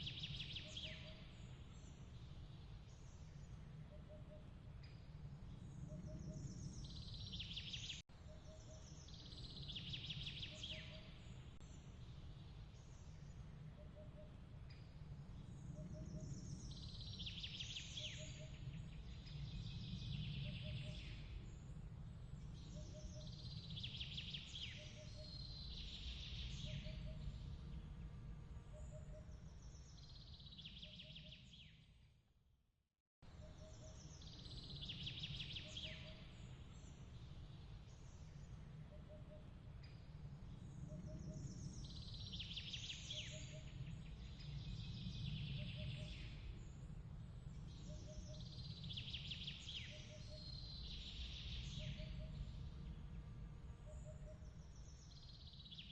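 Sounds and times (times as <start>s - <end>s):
small birds twittering: 0.0s - 27.8s, 33.4s - 53.0s.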